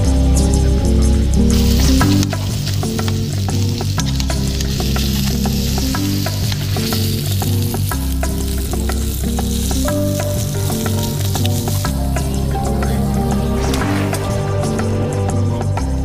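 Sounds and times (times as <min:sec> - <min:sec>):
background music with bass notes: 0:00.0 - 0:16.0
bacon sizzling in a pan: 0:01.5 - 0:14.4.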